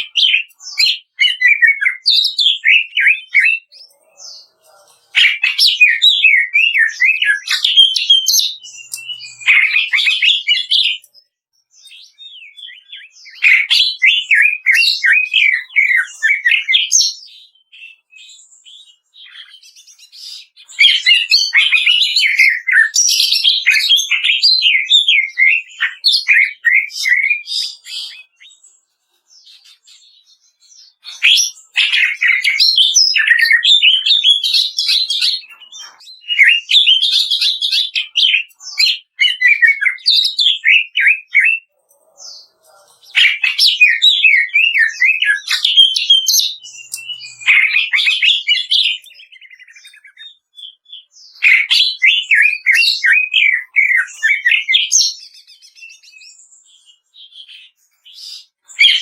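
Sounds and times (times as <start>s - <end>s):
bird singing chirps and whistles: 0.0s - 59.0s.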